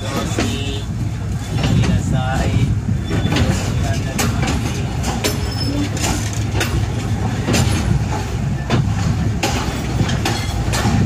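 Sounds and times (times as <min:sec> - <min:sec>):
train wheels rumbling on rails: 0:00.0 - 0:11.0
wheels clacking over rail joints: 0:00.0 - 0:11.0.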